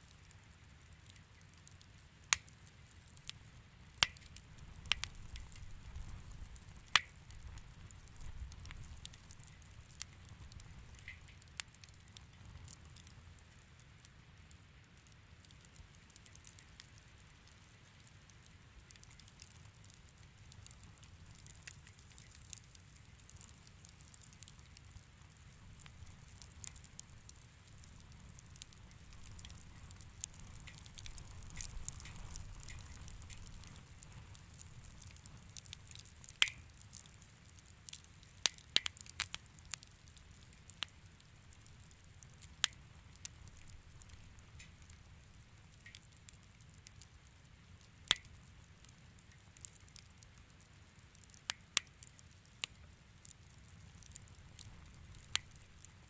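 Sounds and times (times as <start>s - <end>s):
wood fire crackling: 0.0s - 56.0s
fire pops: 1.0s - 2.6s, 4.0s - 13.2s, 18.8s - 47.0s, 47.8s - 50.3s, 51.1s - 56.0s.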